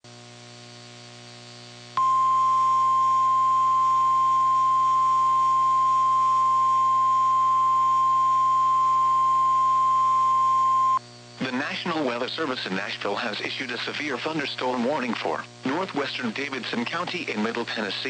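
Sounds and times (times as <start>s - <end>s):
faint hum: 0.1s - 18.0s.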